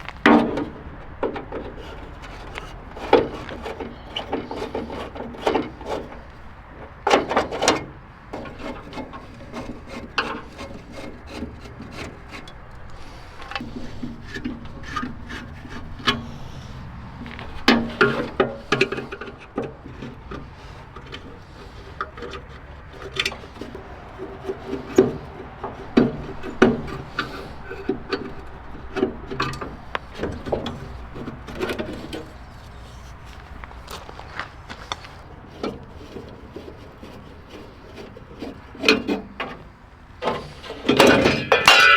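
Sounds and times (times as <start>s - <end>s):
hand tools knocking and scraping: 0.0s - 41.9s.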